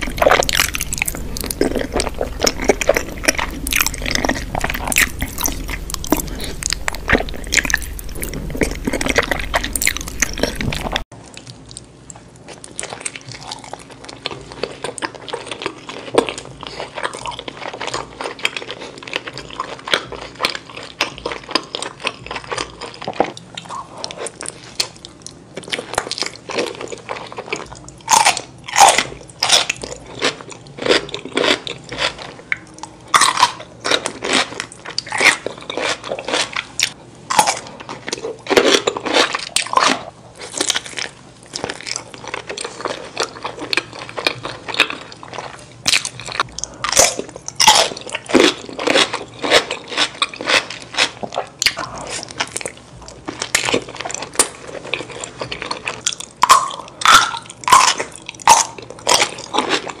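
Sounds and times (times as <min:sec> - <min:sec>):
crunchy chewing: 0:00.0 - 1:00.0.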